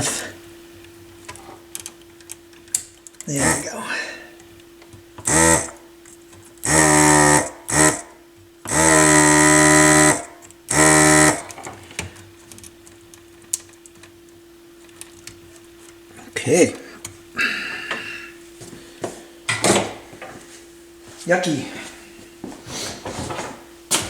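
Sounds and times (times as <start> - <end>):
desoldering gun vacuum pump buzzing: 0.0 - 20.4.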